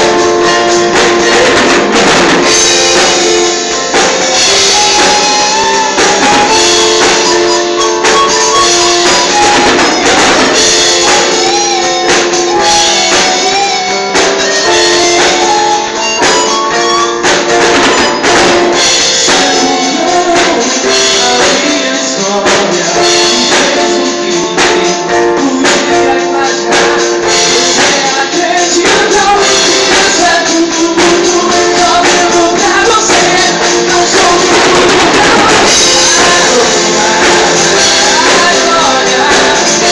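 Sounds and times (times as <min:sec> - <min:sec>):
worship band playing: 0:00.0 - 0:39.9.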